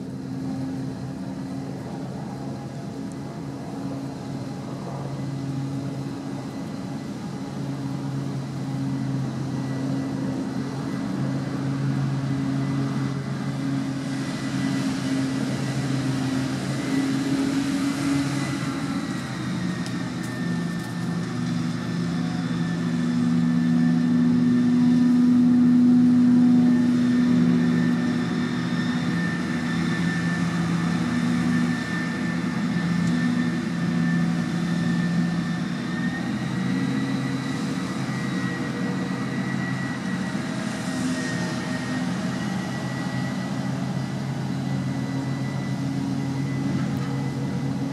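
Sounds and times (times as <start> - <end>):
diesel engine drone: 0.0 - 47.9.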